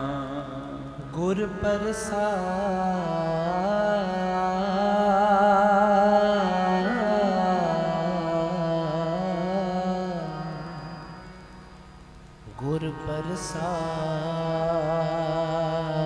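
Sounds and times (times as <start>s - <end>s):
steady drone: 0.0s - 16.0s.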